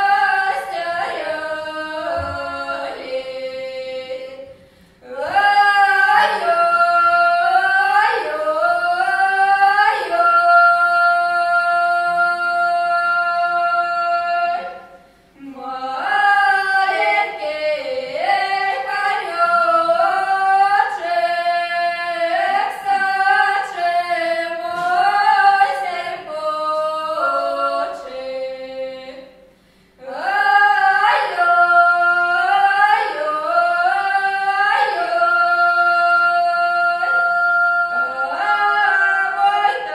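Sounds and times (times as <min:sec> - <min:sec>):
two women singing unaccompanied: 0:00.0 - 0:39.9.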